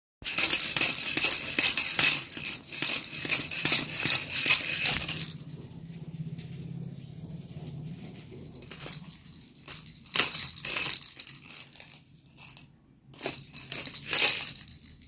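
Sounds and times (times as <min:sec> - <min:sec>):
toy rattle shaken: 0:00.2 - 0:05.6, 0:07.8 - 0:15.0.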